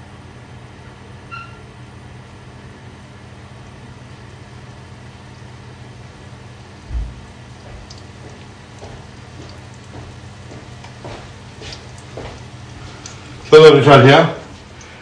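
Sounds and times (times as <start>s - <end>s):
bread frying in oil: 0.1s - 15.0s.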